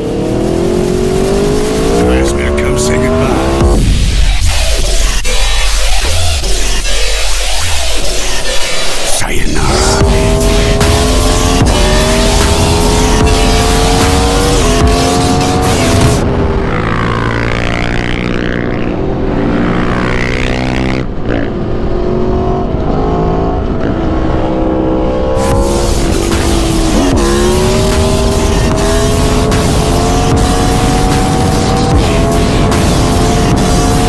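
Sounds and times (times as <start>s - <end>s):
motorcycle engine revving through gears: 0.0s - 3.8s, 9.6s - 34.0s.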